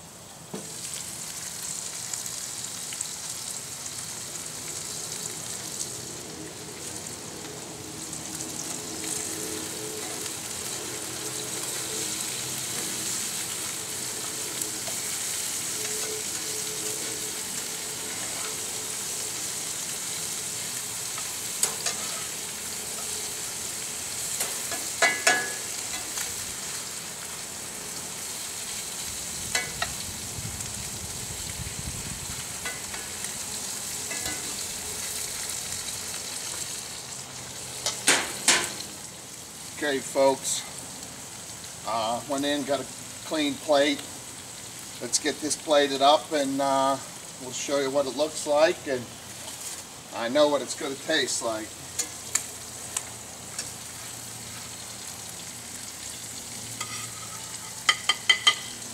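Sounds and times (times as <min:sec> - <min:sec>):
food sizzling on a grill: 0:00.0 - 0:58.9.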